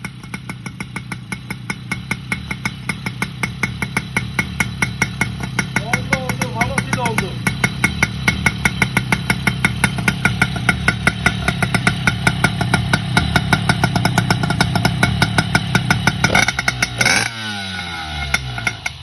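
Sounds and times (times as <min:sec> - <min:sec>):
moped engine idling with pops: 0:00.0 - 0:19.0
engine rev burst: 0:03.7 - 0:19.0.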